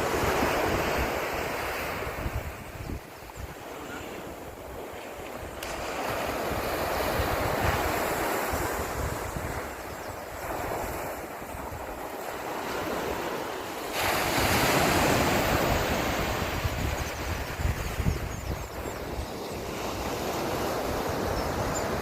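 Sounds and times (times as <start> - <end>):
wind buffeting microphone: 0.0 - 3.6, 4.4 - 13.4, 14.0 - 22.0
ocean waves breaking on a beach: 0.0 - 22.0.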